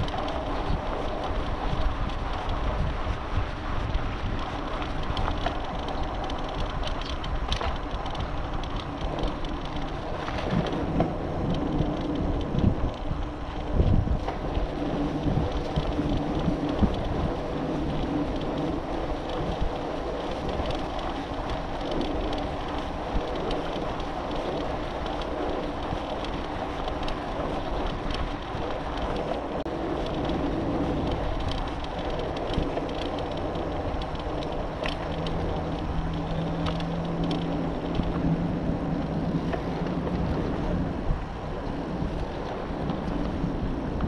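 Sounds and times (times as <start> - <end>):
light clicks and rattles: 0.0 - 44.0
low steady hum: 0.0 - 44.0
wind rushing over microphone: 0.0 - 44.0.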